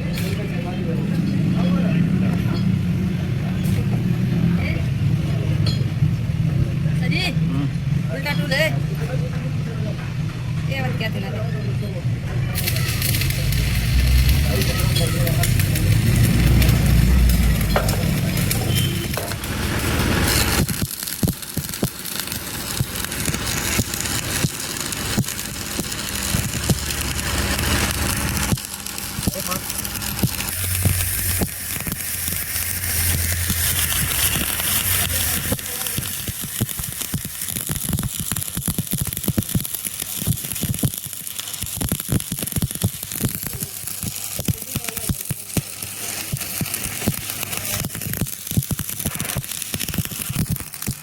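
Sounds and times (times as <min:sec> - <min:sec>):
welding arc sizzling and popping: 0:00.0 - 0:51.0.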